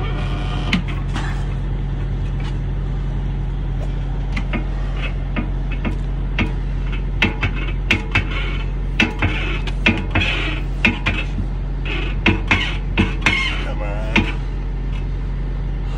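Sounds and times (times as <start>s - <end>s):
engine idling hum: 0.0s - 15.9s.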